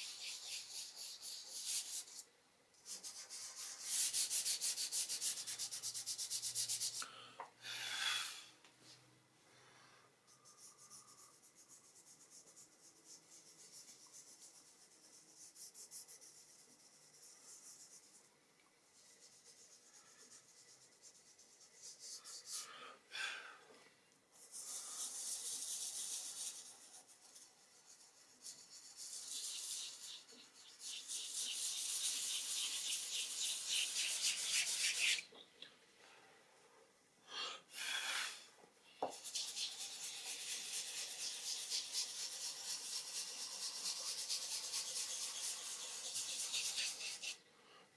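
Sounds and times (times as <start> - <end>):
pastel rubbing on paper: 0.0 - 7.0, 10.3 - 22.7, 24.4 - 35.2, 39.1 - 47.4.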